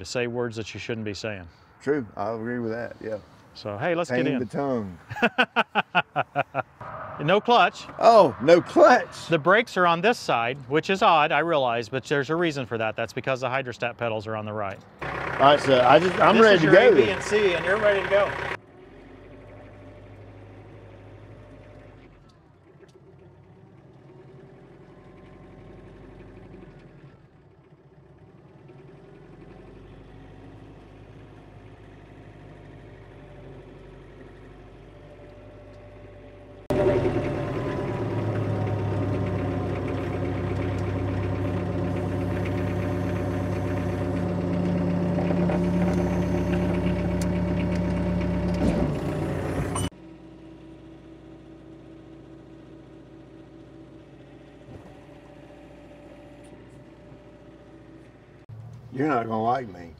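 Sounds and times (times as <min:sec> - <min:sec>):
tractor diesel engine running: 0:01.4 - 0:13.0, 0:14.5 - 0:59.9.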